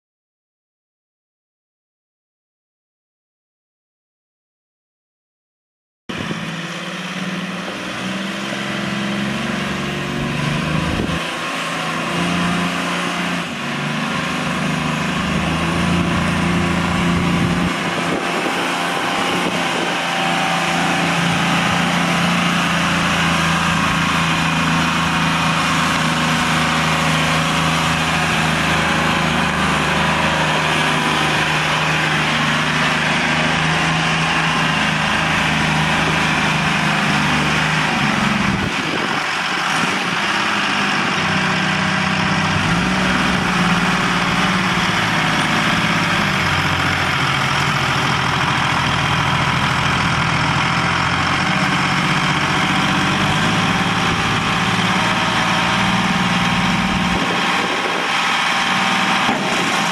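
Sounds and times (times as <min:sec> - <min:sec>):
diesel engine idling: 0:06.2 - 0:59.9.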